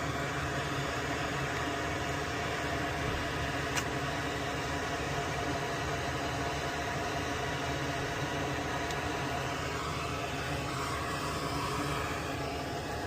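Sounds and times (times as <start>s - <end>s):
faint hum: 0.0s - 13.0s
small fan whirring: 0.0s - 13.0s.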